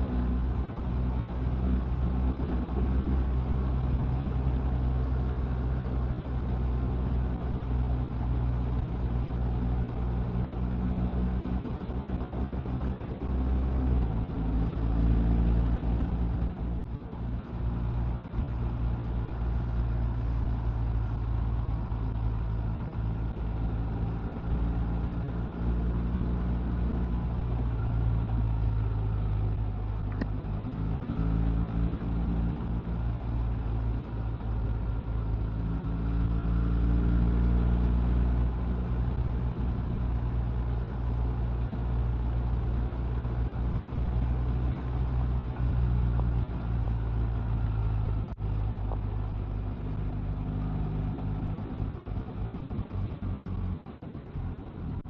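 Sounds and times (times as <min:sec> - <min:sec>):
motorcycle engine running: 0:00.0 - 0:55.0
road rumble: 0:00.0 - 0:55.0
wind: 0:00.0 - 0:55.0.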